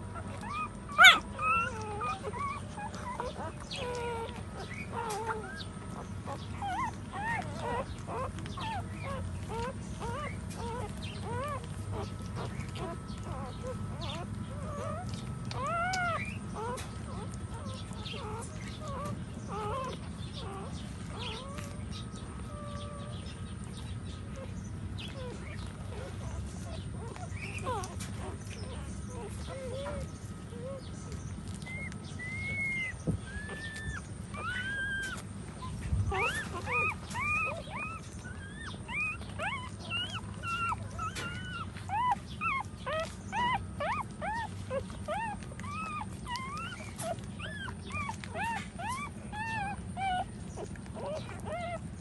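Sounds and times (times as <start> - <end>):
puppies squeaking and whining: 0.0 - 52.0
steady low hum: 0.0 - 52.0.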